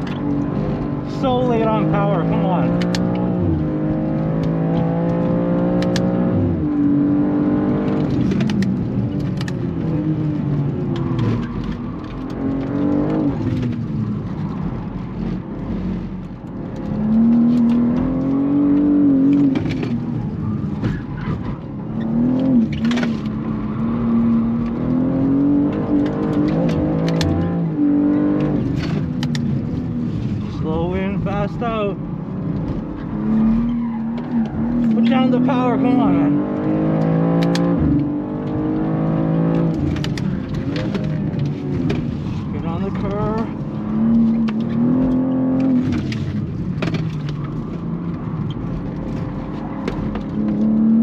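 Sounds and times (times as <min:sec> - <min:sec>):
car engine revving in cabin: 0:00.0 - 0:51.0.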